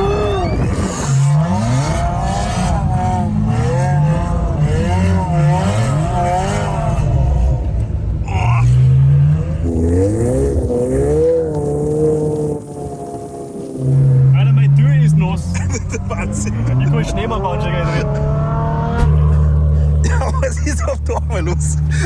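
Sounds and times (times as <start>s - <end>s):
car engine revving hard: 0.0s - 22.0s.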